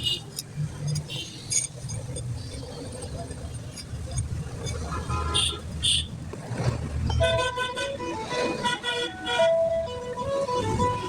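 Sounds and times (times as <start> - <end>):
passing road traffic: 0.0 - 11.0.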